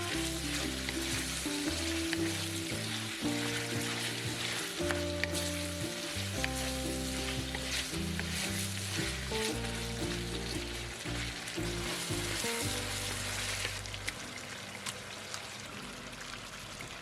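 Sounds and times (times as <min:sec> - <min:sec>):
food sizzling in oil: 0:00.0 - 0:14.0
stirring clicks: 0:00.0 - 0:14.2
background music with bass: 0:00.0 - 0:14.3.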